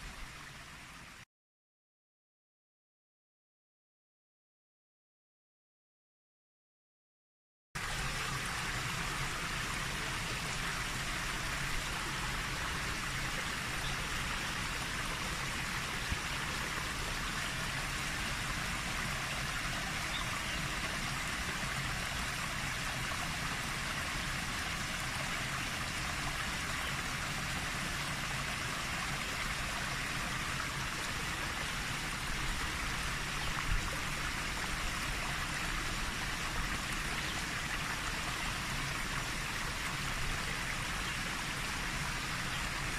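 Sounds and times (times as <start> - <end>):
rushing water: 7.8 - 42.9.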